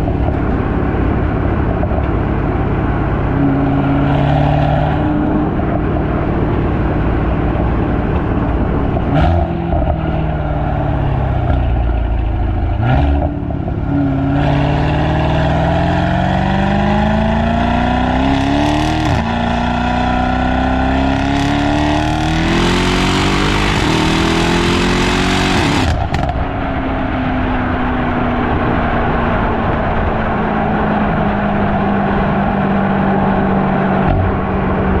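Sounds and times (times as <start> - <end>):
car engine accelerating through gears: 0.0 - 35.0.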